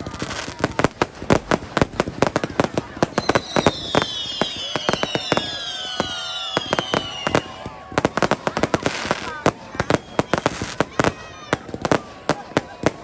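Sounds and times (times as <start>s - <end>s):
fireworks cracking and banging: 0.0s - 13.0s
fireworks whistling: 0.0s - 13.0s.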